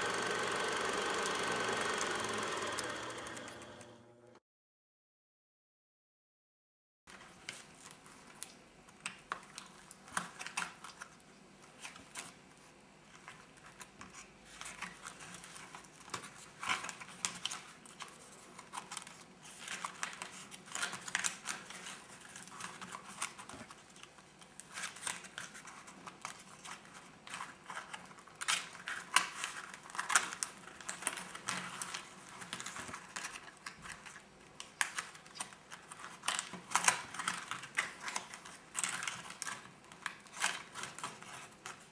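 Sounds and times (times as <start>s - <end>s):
paper pages rustling and crackling: 7.1s - 41.9s.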